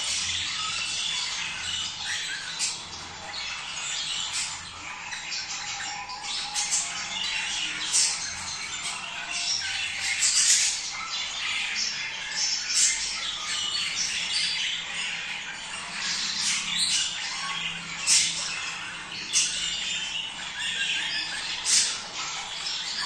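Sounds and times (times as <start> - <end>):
budgerigars chattering: 0.0 - 23.0.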